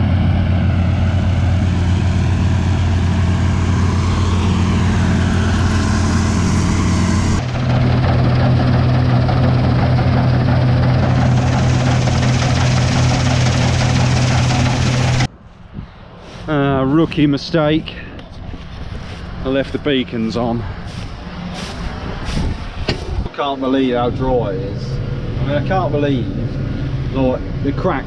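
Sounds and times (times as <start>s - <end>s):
combine harvester drone: 0.0s - 15.3s, 17.3s - 28.0s.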